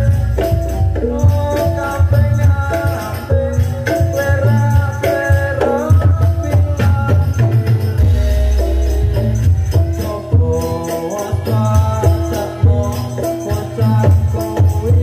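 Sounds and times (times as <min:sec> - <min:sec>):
sharp percussion strikes: 0:00.0 - 0:15.0.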